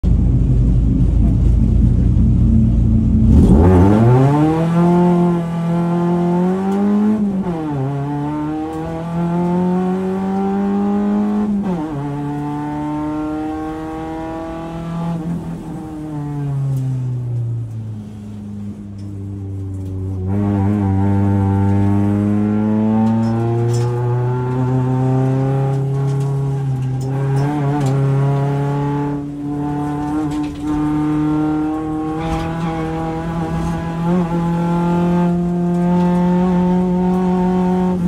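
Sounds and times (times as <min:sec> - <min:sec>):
race car engine revving: 0:01.2 - 0:38.0.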